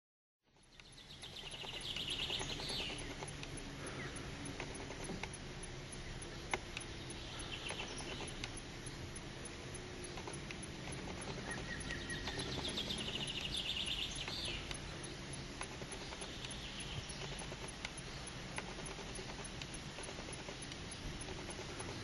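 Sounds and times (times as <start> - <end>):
low outdoor hum: 0.4 - 22.0
bird singing fast trill: 0.5 - 22.0
faint clicks: 0.5 - 22.0.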